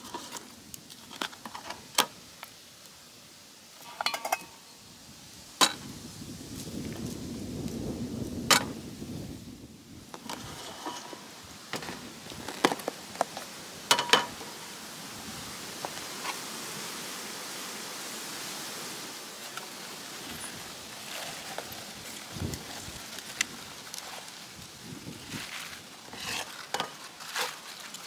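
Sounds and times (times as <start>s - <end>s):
steady soft hiss: 0.0s - 28.0s.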